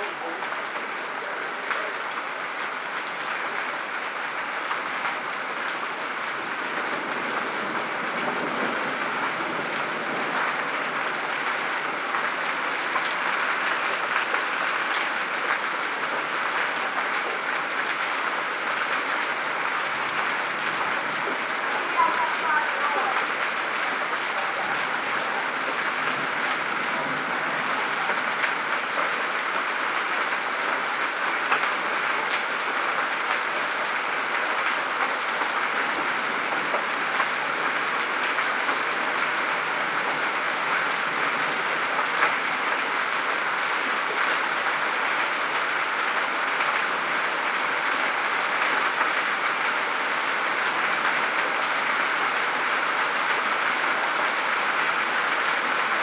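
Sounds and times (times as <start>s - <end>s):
hail and rain on hard surfaces: 0.0s - 56.0s.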